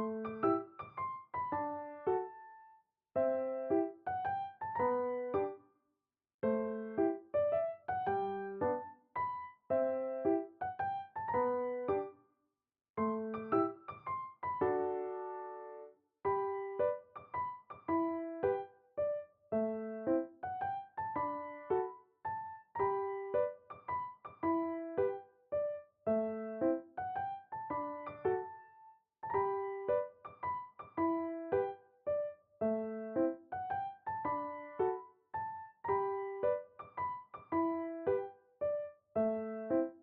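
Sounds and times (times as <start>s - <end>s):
gentle piano melody: 0.0s - 5.6s, 6.4s - 12.2s, 13.0s - 40.0s.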